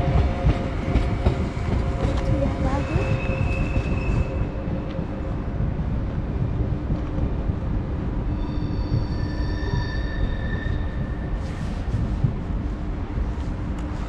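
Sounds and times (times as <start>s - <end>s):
train whining tones: 0.0s - 12.6s
train rumbling: 0.0s - 14.0s.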